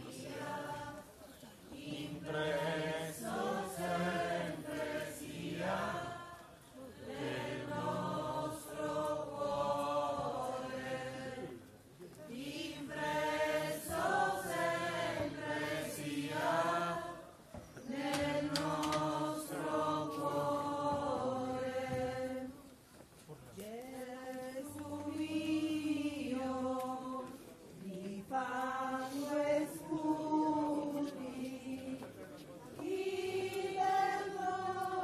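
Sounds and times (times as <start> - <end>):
group chanting a hymn: 0.0 - 22.6, 23.6 - 35.0.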